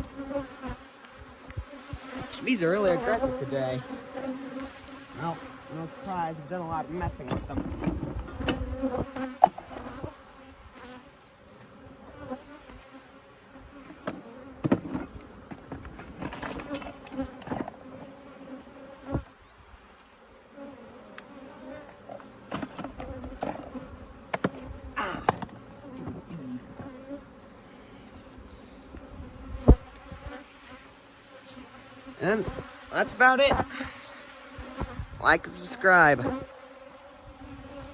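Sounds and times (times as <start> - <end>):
honeybees buzzing: 0.0 - 37.9.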